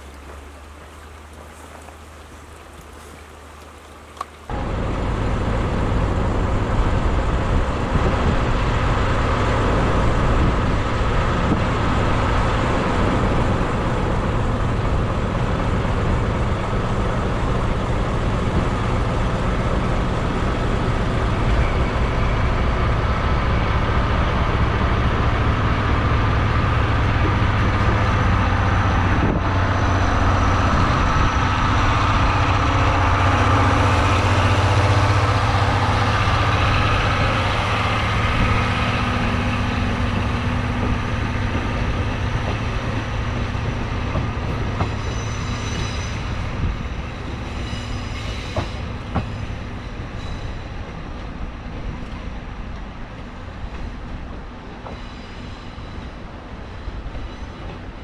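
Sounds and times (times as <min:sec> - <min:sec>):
diesel locomotive humming: 0:00.0 - 0:58.0
train coaches passing: 0:00.0 - 0:58.0.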